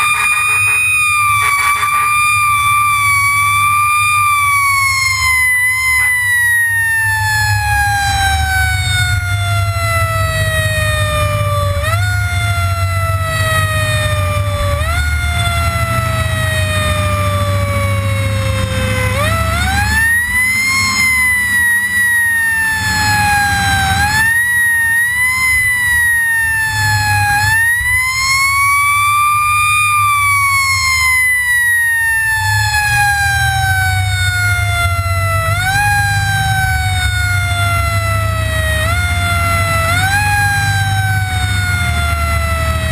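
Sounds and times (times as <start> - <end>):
fire engine siren wailing: 0.0 - 42.9
truck engine rumble: 0.0 - 42.9.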